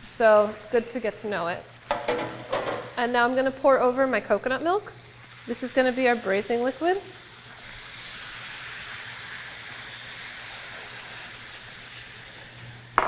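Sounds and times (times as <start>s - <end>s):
liquid hissing in hot pan: 0.0s - 13.0s.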